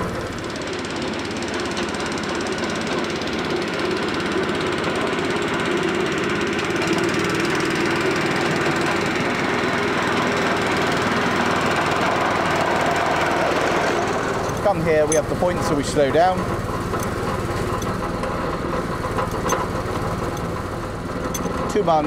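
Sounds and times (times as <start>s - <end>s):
miniature locomotive engine running: 0.0s - 22.0s.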